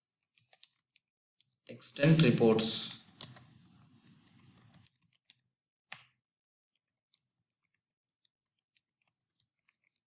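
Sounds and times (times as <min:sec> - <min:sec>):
keyboard typing: 0:00.1 - 0:02.4, 0:03.0 - 0:10.0.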